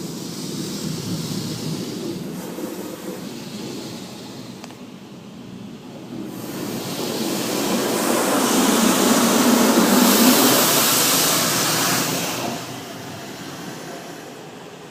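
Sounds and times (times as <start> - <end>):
car wash equipment rushing: 0.0 - 14.9.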